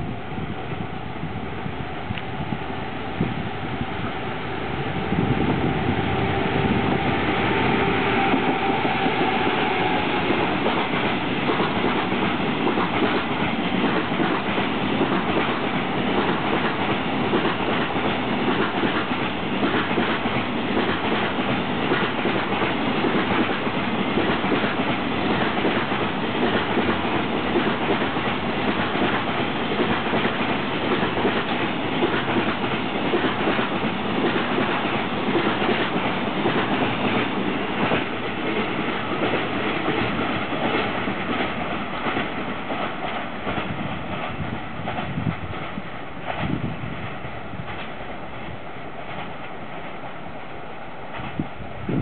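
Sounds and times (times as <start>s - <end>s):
train rumble: 0.0s - 52.0s
train wheels clacking: 5.5s - 48.2s, 48.9s - 51.6s.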